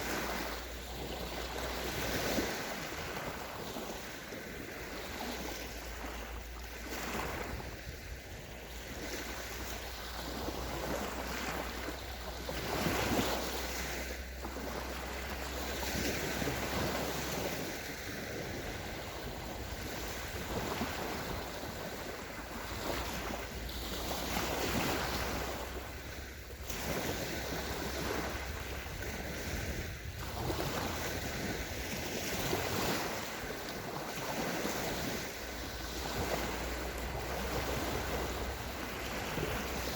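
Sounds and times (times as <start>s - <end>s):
waves washing up a shore: 0.0s - 39.9s
wind rumble on microphone: 0.0s - 39.9s.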